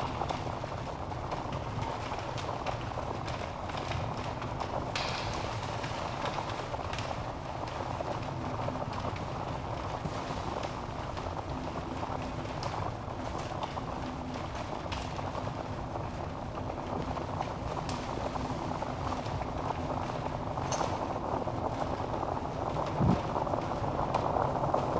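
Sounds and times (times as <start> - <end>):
log fire crackling: 0.0 - 24.9.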